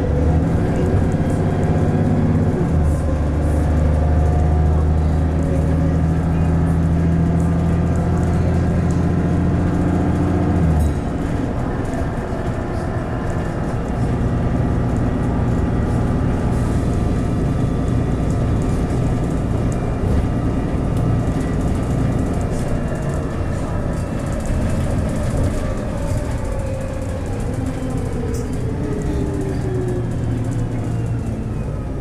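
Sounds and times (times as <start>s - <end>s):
bus engine drone: 0.0s - 32.0s
road and running-gear rumble: 0.0s - 32.0s.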